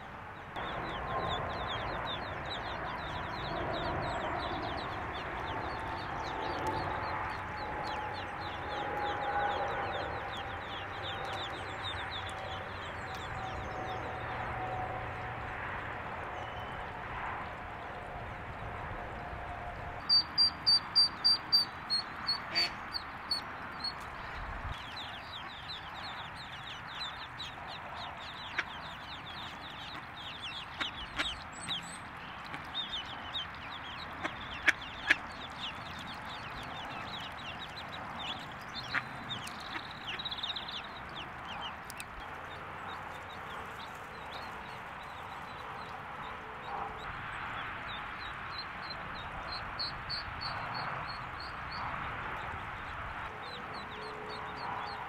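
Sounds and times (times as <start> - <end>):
ducklings peeping: 0.4 - 14.4, 20.0 - 55.0.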